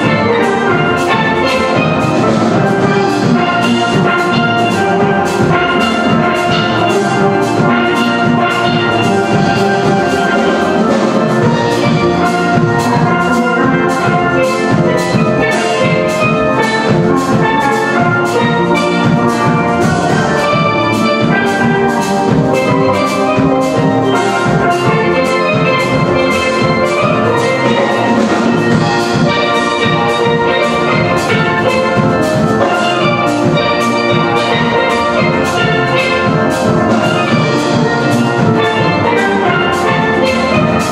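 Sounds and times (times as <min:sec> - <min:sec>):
drum kit and hand percussion: 0:00.0 - 0:40.9
steel band playing calypso: 0:00.0 - 0:40.9.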